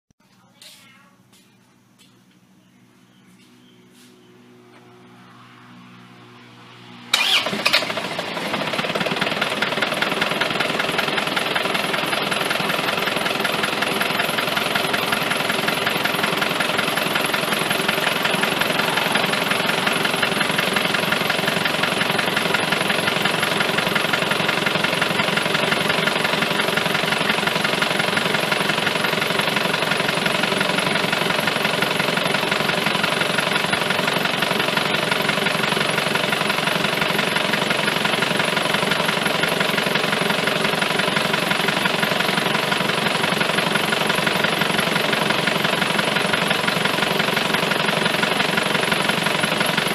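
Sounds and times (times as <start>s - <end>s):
engine starting and idling: 7.0s - 49.9s.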